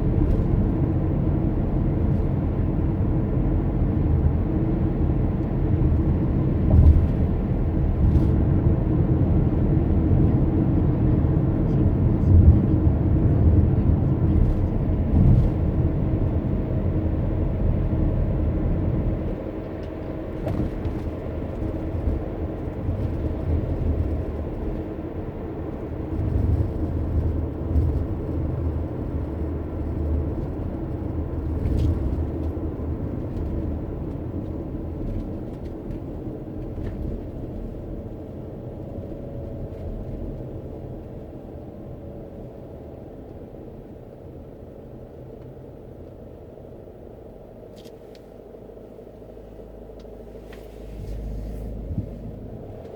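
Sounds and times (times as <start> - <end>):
car road and engine rumble: 0.0 - 52.9.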